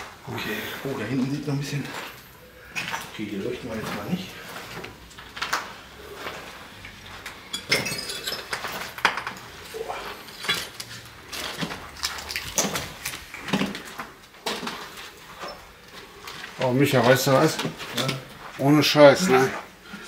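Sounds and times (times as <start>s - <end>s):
footsteps crunching on debris: 0.0s - 7.5s, 8.4s - 19.8s.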